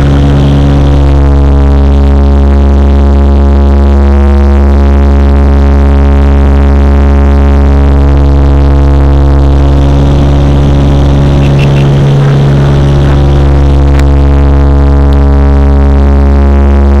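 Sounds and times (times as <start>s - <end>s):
turboprop cabin drone: 0.0s - 17.0s.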